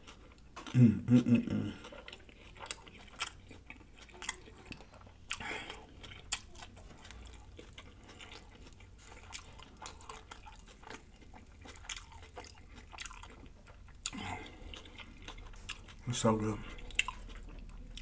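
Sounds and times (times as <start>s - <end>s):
chewing a sandwich: 0.0s - 18.0s.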